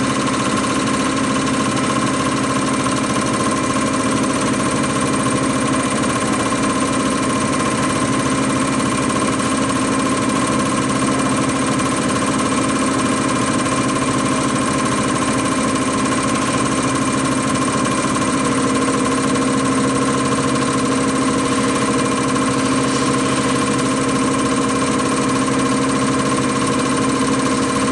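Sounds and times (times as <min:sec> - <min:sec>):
rapid machine chatter: 0:00.0 - 0:27.9
test bench machine hum: 0:00.0 - 0:27.9.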